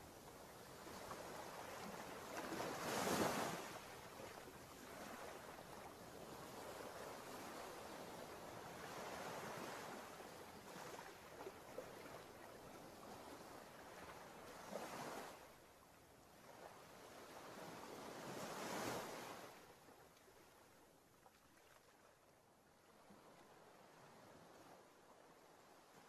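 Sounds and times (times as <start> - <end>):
faint waves breaking on beach: 0.0 - 26.0.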